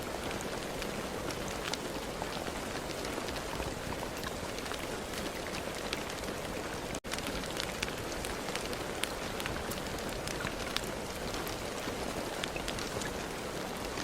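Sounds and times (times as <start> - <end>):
raindrops striking sharply: 0.0 - 14.0
steady rain: 0.0 - 14.0.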